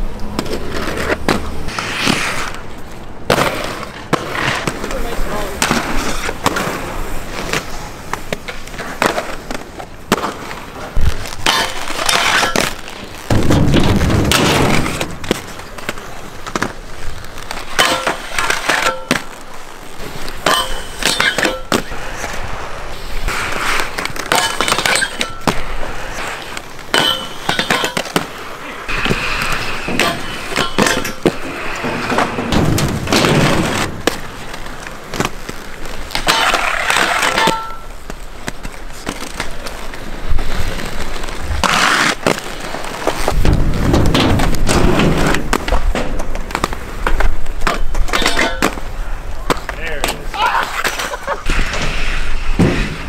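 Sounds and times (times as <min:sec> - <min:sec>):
inline skates rolling on concrete: 0:00.0 - 0:53.0.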